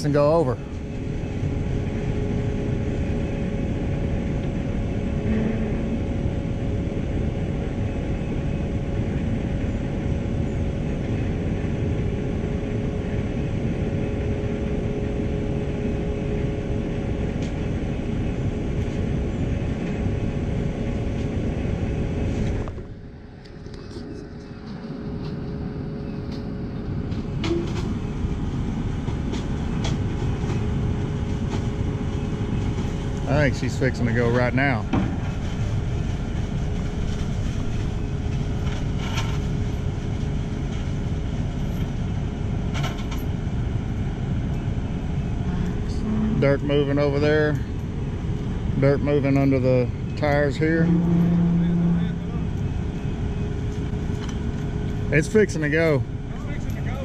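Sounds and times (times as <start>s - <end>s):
diesel truck engine running: 0.0s - 57.0s
engine whine: 0.0s - 57.0s.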